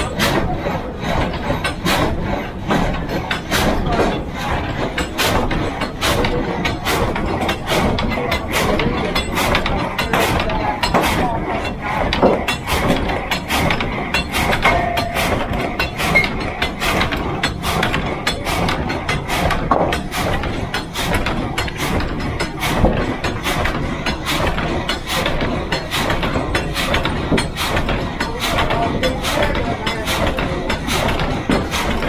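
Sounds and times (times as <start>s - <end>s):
continuous machinery din: 0.0s - 32.0s
sawmill mechanical clatter: 0.0s - 32.0s.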